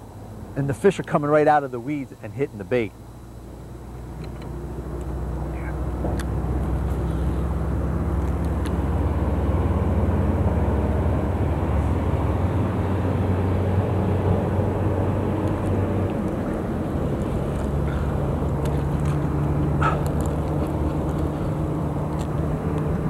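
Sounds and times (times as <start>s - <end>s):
boat motor droning: 0.0s - 23.0s.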